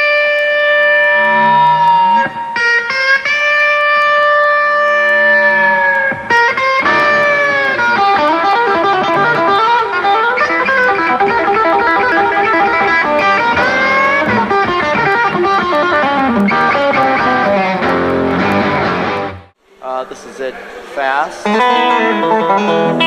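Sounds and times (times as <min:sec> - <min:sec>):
twangy electric guitar picking: 0:00.0 - 0:19.5, 0:21.5 - 0:23.0
sliding guitar notes: 0:00.0 - 0:19.6, 0:21.4 - 0:23.0.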